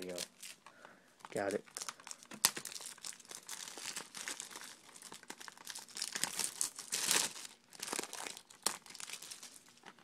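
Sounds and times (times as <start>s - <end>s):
plastic shrink wrap crinkling: 0.0s - 10.0s.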